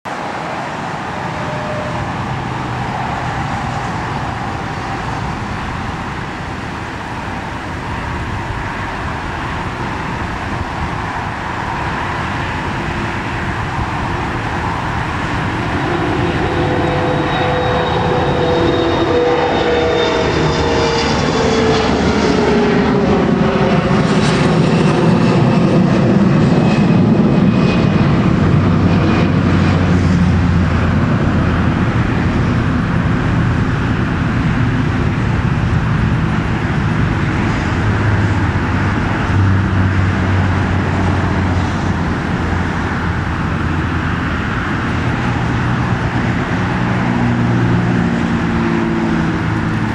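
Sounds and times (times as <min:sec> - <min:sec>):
jet engines passing overhead: 0:00.0 - 0:49.9
deep rumble: 0:00.1 - 0:49.9.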